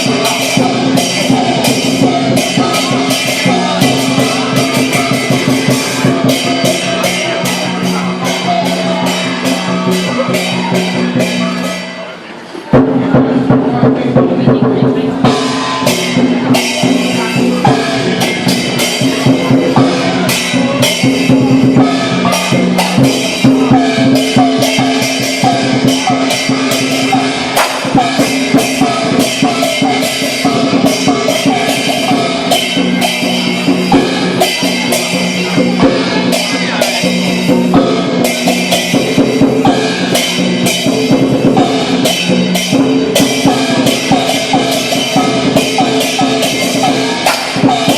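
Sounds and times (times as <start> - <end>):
big drum beating: 0.0 - 12.1, 12.7 - 47.9
crashing cymbals: 0.0 - 47.9.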